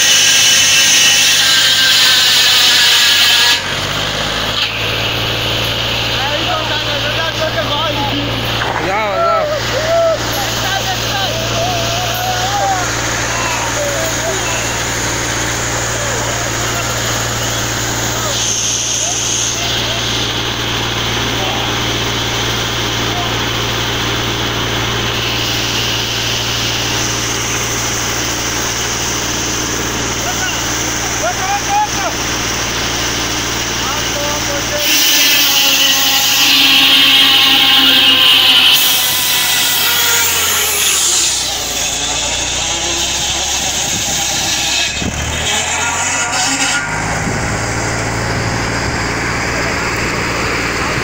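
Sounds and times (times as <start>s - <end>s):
engine droning with hiss: 0.0s - 51.0s
saw cutting log: 0.0s - 51.0s.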